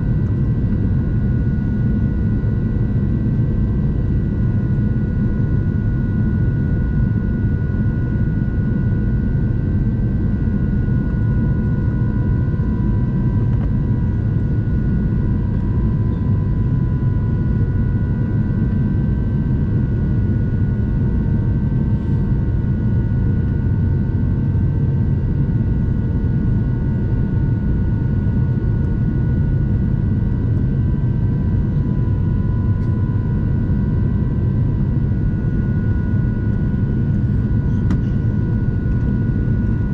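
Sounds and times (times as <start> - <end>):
low rumble of airflow and engines: 0.0 - 39.9.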